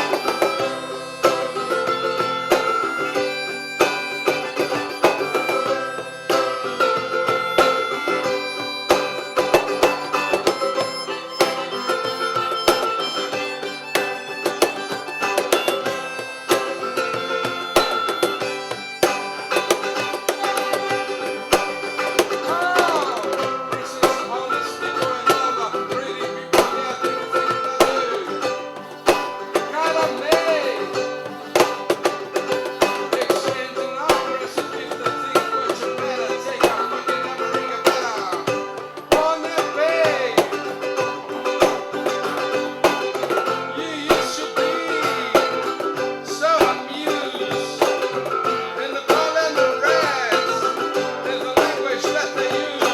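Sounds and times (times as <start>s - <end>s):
acoustic guitar strumming: 0.0s - 52.9s
hand percussion beat: 0.0s - 52.9s
lead melody of bending notes: 0.0s - 52.9s.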